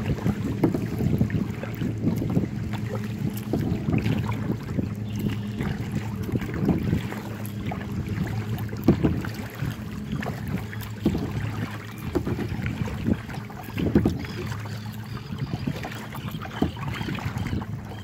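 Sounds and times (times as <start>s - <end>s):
paddle splashes and knocks: 0.0s - 18.0s
wind rumble on microphone: 0.0s - 18.0s.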